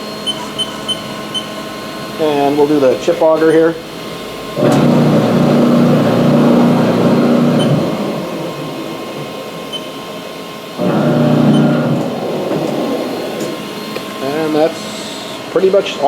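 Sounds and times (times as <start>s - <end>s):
motor and gear hum: 0.0s - 16.0s.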